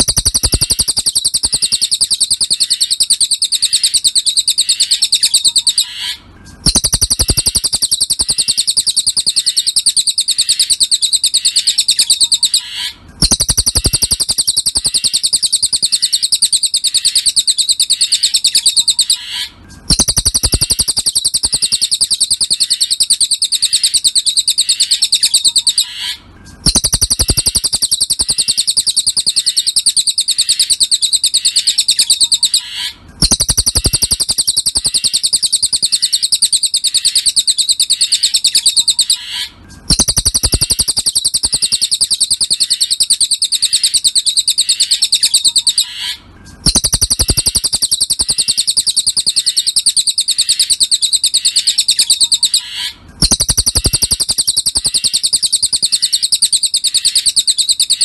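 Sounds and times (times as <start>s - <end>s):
high-pitched chattering bird trill: 0.0s - 58.0s.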